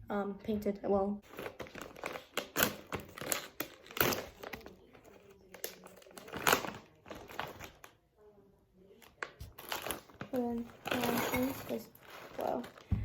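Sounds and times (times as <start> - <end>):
plastic bag crinkling: 1.2 - 7.9, 9.0 - 13.0.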